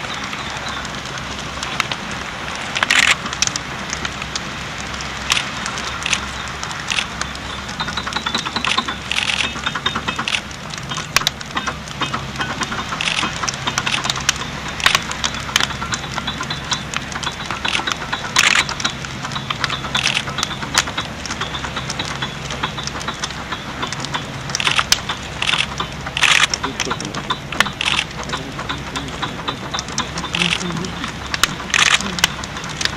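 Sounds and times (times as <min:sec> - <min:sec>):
fire crackling and popping: 0:00.0 - 0:32.9
steady low rumble: 0:00.0 - 0:32.9.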